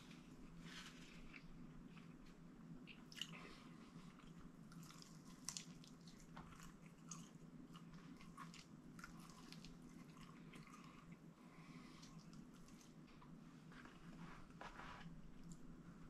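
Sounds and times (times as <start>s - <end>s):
low room hum: 0.0s - 16.0s
faint chewing with wet clicks: 0.2s - 13.4s.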